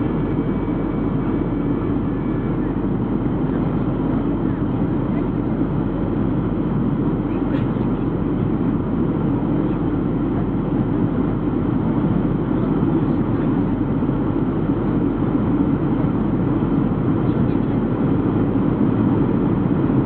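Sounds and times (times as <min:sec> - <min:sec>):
airplane cabin engine rush: 0:00.0 - 0:20.0.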